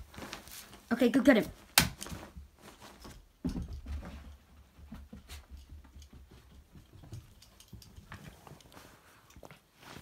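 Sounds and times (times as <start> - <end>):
dog paws pattering on carpet: 0.0 - 10.0.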